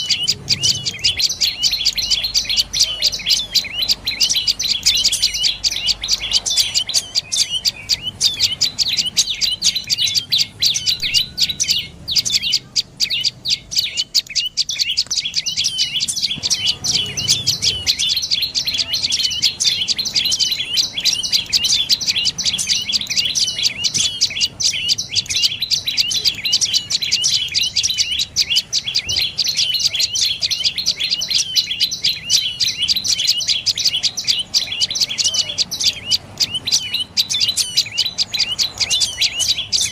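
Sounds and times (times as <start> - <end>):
tailorbird calling high sharp notes: 0.0 - 39.9.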